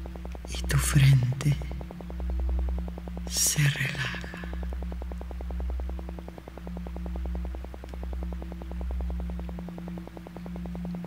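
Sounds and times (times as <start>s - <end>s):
pulsing held tones: 0.0s - 11.0s
synthesized low drone: 0.0s - 11.0s.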